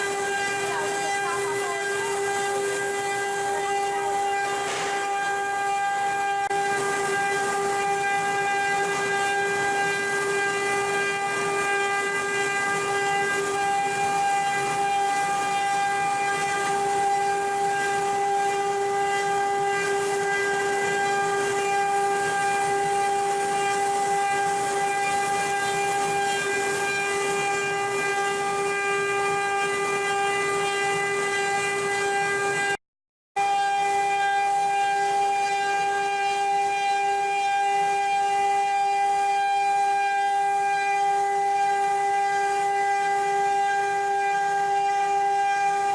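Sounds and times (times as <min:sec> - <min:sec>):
router spindle whining: 0:00.0 - 0:32.8, 0:33.4 - 0:45.9.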